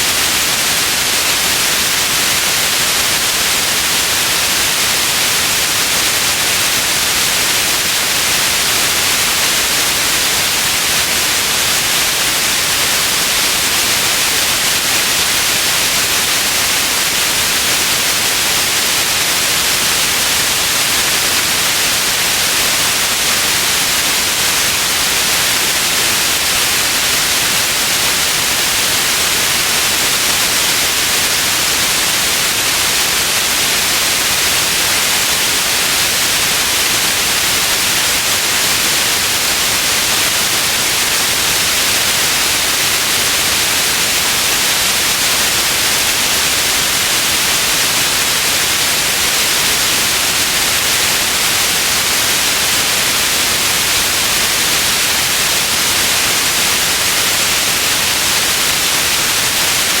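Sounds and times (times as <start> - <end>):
white noise hiss: 0.0 - 60.0.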